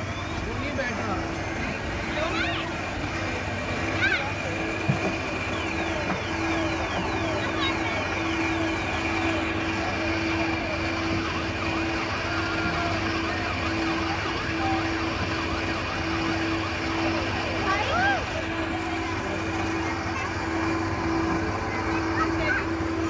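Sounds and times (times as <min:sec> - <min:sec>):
siren-like electronic chirps: 0:00.0 - 0:23.0.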